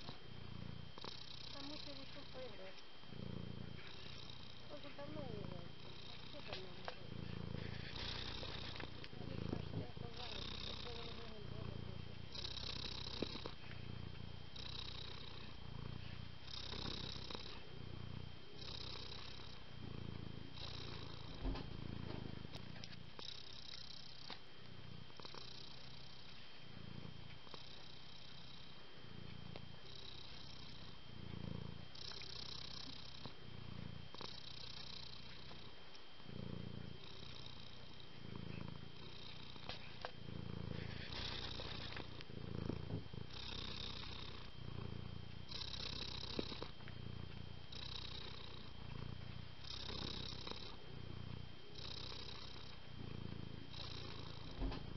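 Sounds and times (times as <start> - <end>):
cat purring: 0.0 - 54.9.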